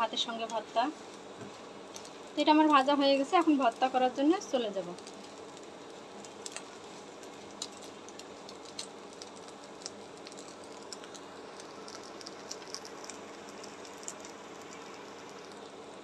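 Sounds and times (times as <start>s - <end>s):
oil sizzling in a wok: 0.0s - 16.0s
small pops and crackles: 0.1s - 16.0s.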